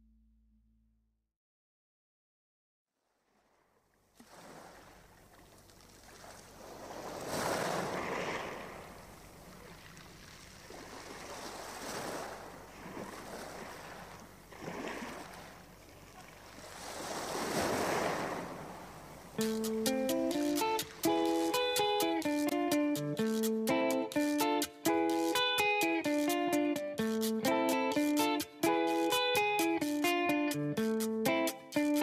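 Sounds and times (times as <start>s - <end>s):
sea surf rushing and washing back: 6.1s - 32.0s.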